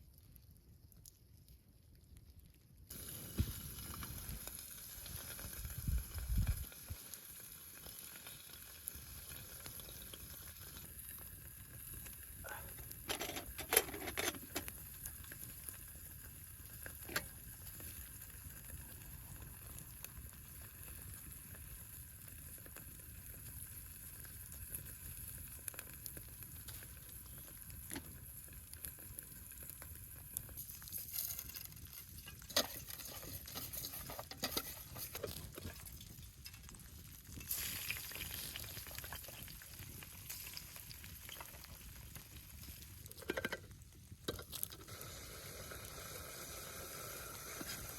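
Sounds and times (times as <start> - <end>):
campfire sizzling and crackling: 0.0 - 47.9.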